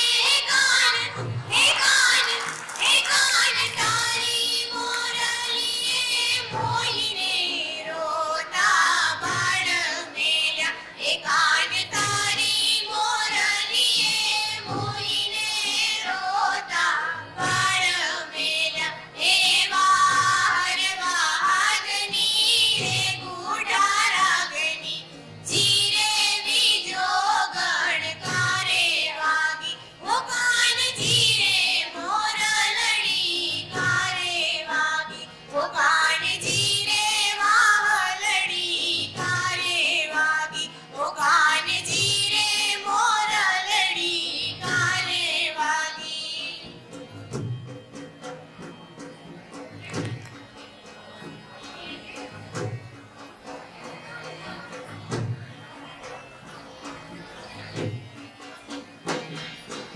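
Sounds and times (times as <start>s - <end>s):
high voices singing: 0.0s - 48.4s
instrumental accompaniment: 0.0s - 59.9s.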